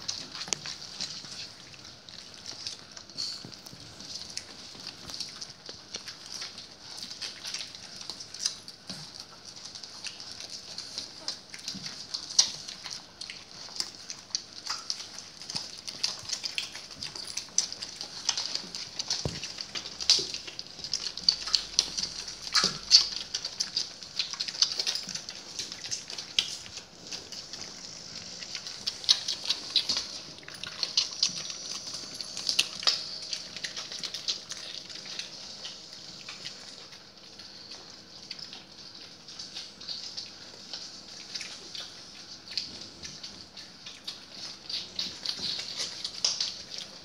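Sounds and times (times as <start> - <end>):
dogs making small clicks: 0.0 - 47.0.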